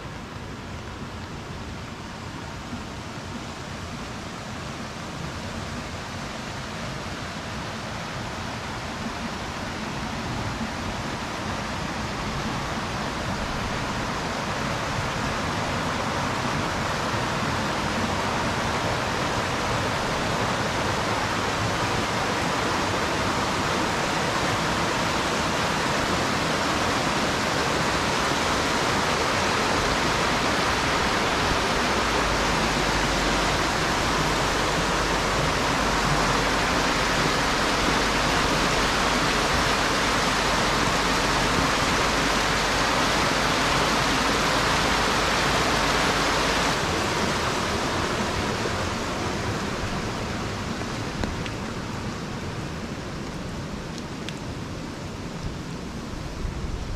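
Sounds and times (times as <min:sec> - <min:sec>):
creek water rushing over stones: 0:00.0 - 0:56.9
rain: 0:00.0 - 0:56.9.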